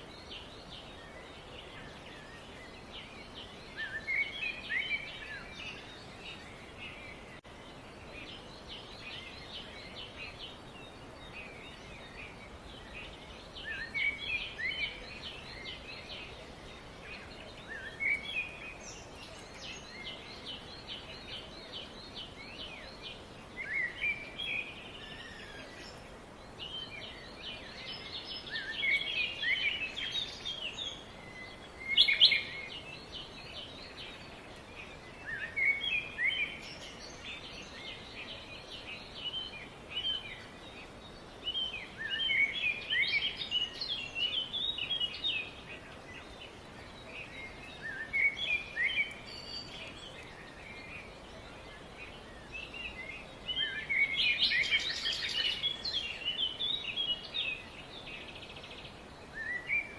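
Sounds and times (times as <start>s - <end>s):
faint steady hiss: 0.0s - 59.9s
small birds chirping and twittering: 0.0s - 59.9s.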